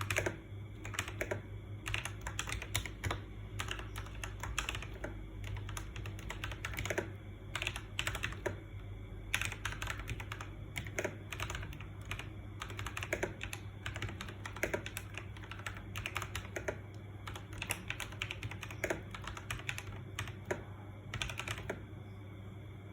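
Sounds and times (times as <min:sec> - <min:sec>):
mechanical keyboard typing: 0:00.0 - 0:21.8.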